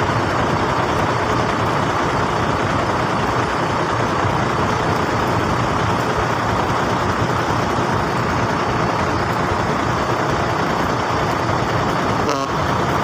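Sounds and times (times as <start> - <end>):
roadside traffic noise: 0.0 - 13.0.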